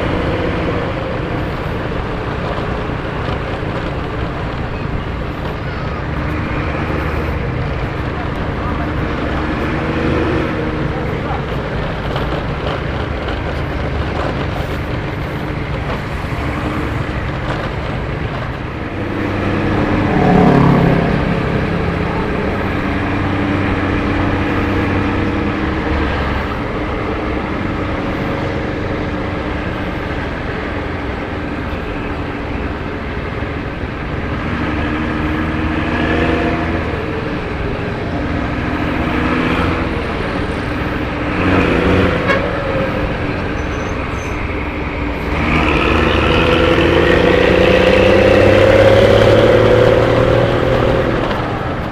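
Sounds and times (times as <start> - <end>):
bus diesel engine rumbling: 0.0 - 51.9.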